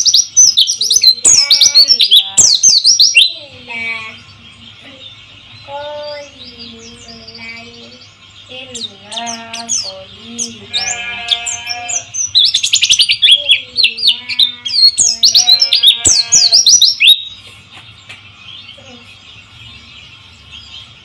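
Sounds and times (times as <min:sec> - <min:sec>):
bird chirping and trilling: 0:00.0 - 0:21.0.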